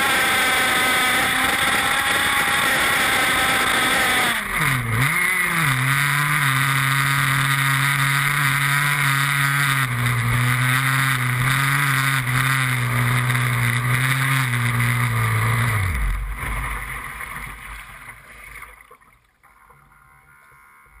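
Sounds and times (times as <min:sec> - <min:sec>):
small two-stroke outboard engine: 0:00.0 - 0:18.8, 0:19.4 - 0:21.0.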